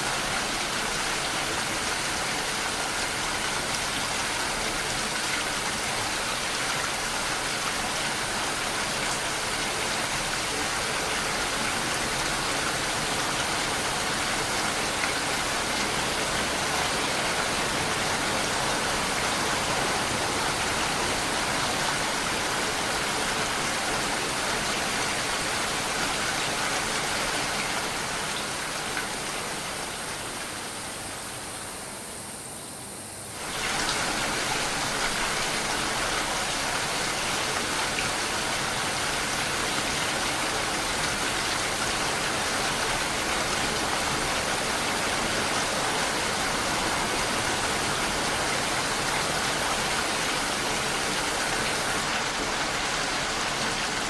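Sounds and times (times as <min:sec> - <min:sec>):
steady rain falling: 0:00.0 - 0:31.9, 0:33.3 - 0:54.0.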